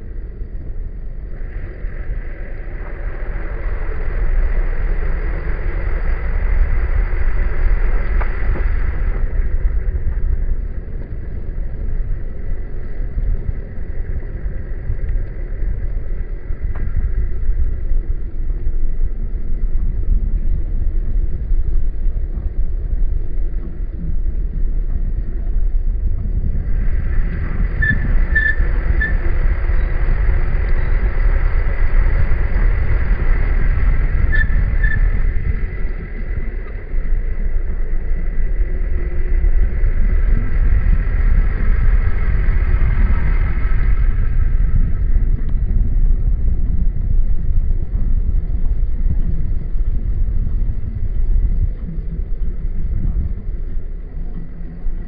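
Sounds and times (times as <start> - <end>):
car engine and tyres rumbling: 0.0 - 55.0
wind on microphone: 0.0 - 55.0.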